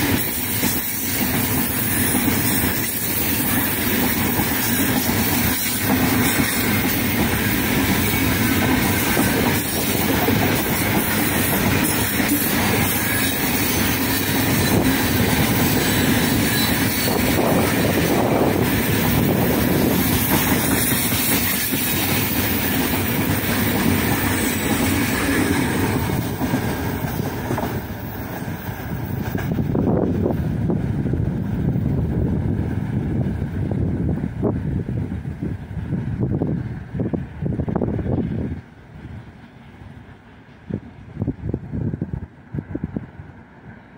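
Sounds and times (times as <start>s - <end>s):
freight train wheels rumbling: 0.0s - 43.9s.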